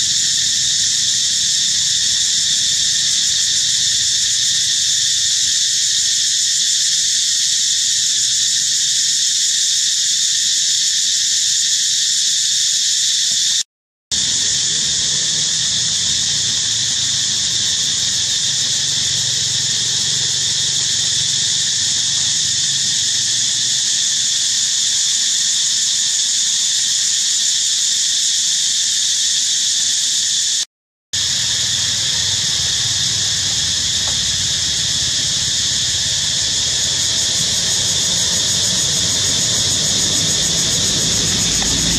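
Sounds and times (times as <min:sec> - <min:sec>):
high-pitched insect chorus: 0:00.0 - 0:41.9.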